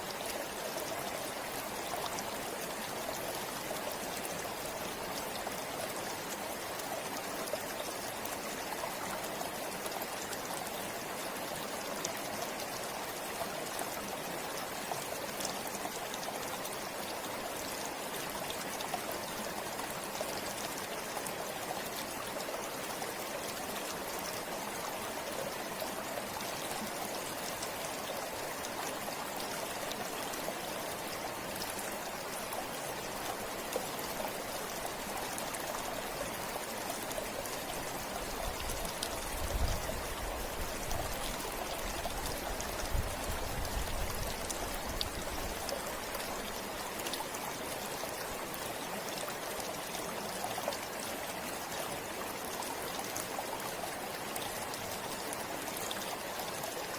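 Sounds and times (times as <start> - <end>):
stream flowing over stones: 0.0 - 56.9.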